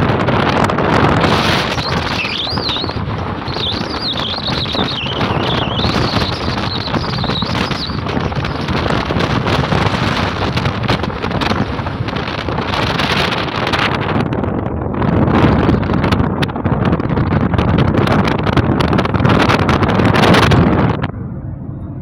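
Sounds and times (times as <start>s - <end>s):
car road noise: 0.0s - 22.0s
wind noise on microphone: 0.0s - 22.0s.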